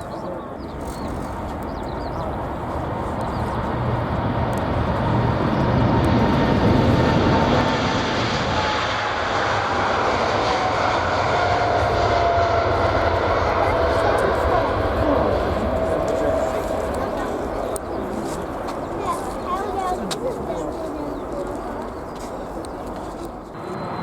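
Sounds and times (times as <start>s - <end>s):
jet engines rumbling past: 0.0s - 24.0s.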